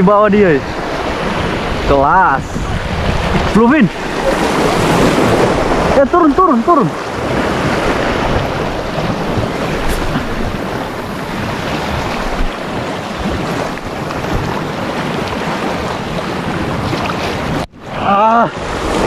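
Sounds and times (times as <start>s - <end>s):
wind buffeting microphone: 0.0s - 17.7s
waves splashing over rocks: 0.0s - 19.0s.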